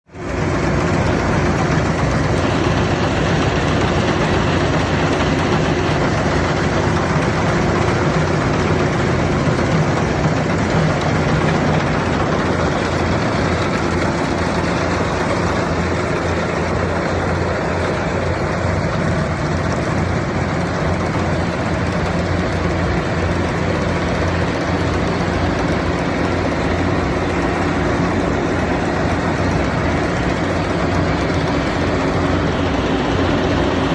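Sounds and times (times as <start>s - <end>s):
harvester engine droning: 0.0s - 33.9s.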